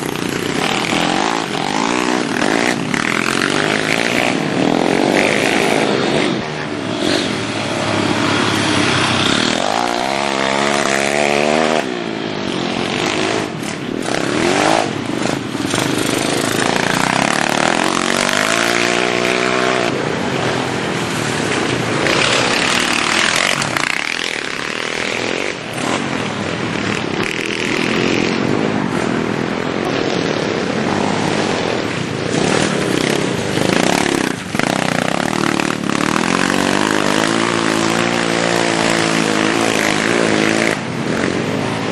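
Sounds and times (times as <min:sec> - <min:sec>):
minibike engines revving: 0:00.0 - 0:41.9.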